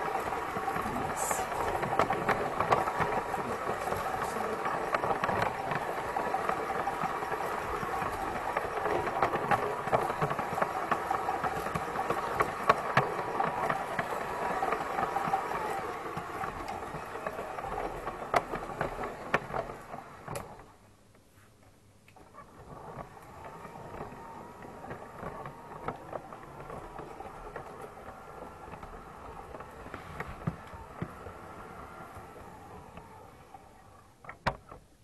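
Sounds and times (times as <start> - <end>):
model train motor humming: 0.0 - 20.8, 22.2 - 34.6
wheels clicking over rail joints: 0.0 - 21.2, 22.1 - 35.0.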